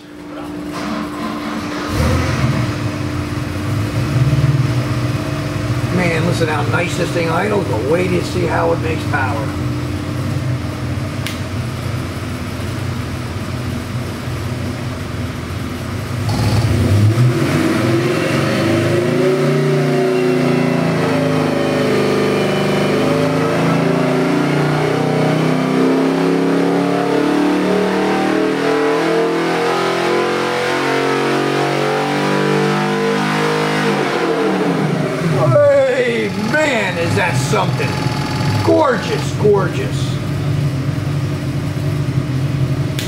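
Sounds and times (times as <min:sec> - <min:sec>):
engine revving under load: 0:00.0 - 0:09.9, 0:16.2 - 0:41.4.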